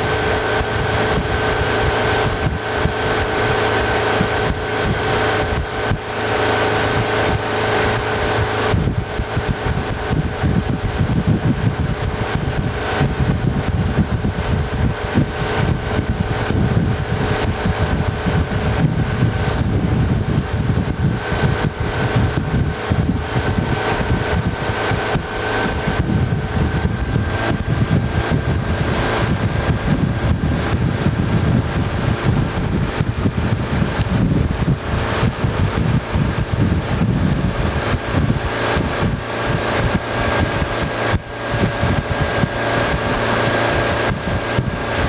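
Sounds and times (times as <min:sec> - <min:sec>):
motor drone: 0:00.0 - 0:45.0
wind buffeting microphone: 0:00.0 - 0:45.0.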